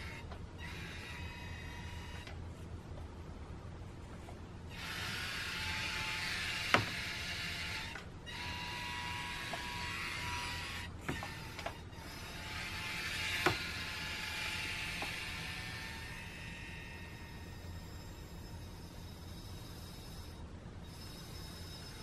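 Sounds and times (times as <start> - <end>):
small electric motor whine: 0.0 - 2.4, 4.7 - 22.0.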